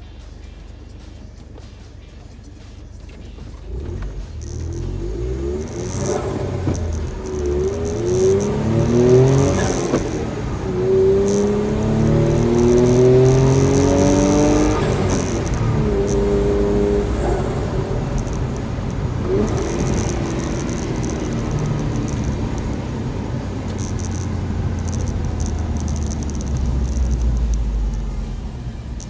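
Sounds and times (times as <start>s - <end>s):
faint high clicking: 0.0s - 29.0s
truck engine accelerating: 0.0s - 29.0s.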